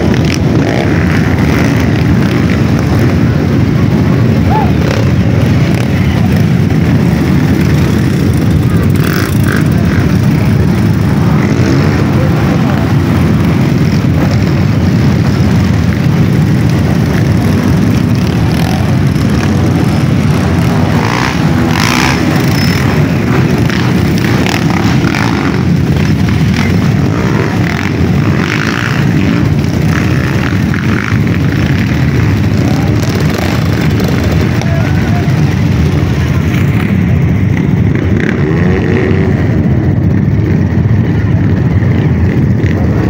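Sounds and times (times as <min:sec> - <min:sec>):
dirt bike engines droning: 0:00.0 - 0:43.0.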